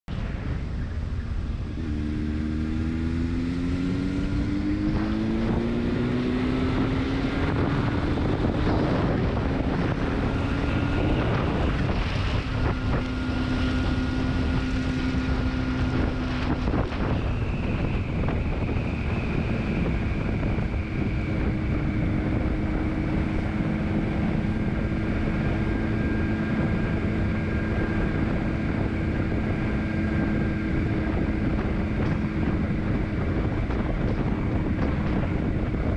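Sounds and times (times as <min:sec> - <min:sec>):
wind rush on microphone: 0:00.1 - 0:35.9
motorcycle engine accelerating: 0:00.4 - 0:35.9.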